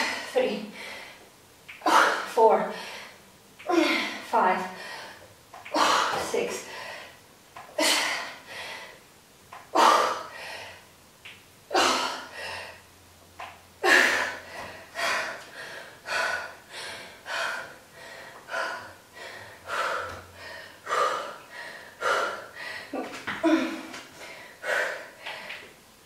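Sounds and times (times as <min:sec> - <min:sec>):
woman breathing hard: 0:00.0 - 0:01.3, 0:01.9 - 0:09.1, 0:09.7 - 0:10.9, 0:11.7 - 0:12.9, 0:13.8 - 0:25.8.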